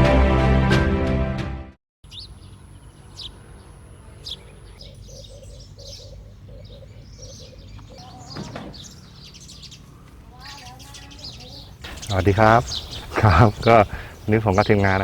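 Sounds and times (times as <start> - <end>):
birds chirping: 2.0 - 15.0
steady low background hum: 2.1 - 15.0.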